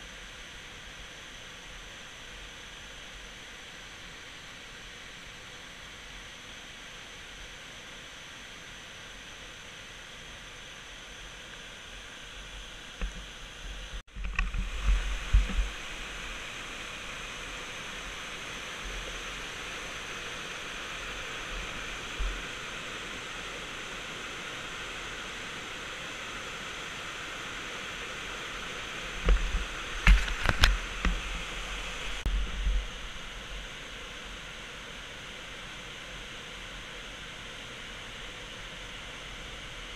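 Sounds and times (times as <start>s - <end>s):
waterfall whitewater rushing: 0.2s - 39.9s.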